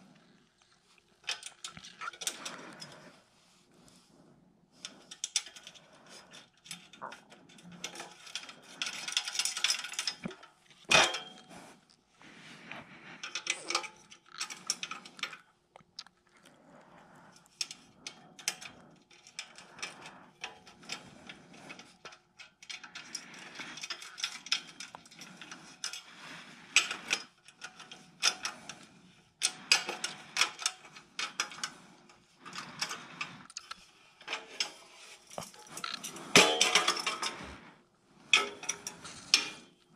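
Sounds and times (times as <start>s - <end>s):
metal tubing clicks and knocks: 1.1s - 3.1s, 4.8s - 12.0s, 12.7s - 16.2s, 17.4s - 39.9s.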